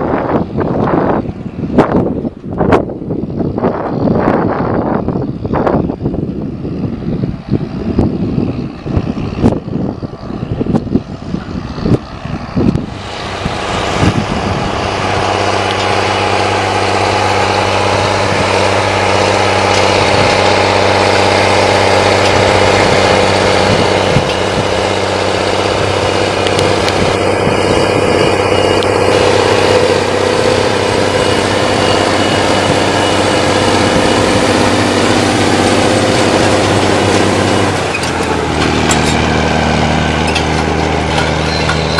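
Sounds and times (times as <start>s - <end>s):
tractor diesel engine under load: 0.0s - 41.9s
wind buffeting microphone: 0.0s - 41.9s.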